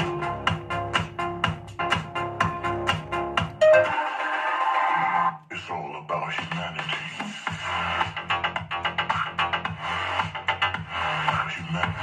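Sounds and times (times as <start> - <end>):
electronic dance music: 0.0 - 5.4, 6.4 - 12.0.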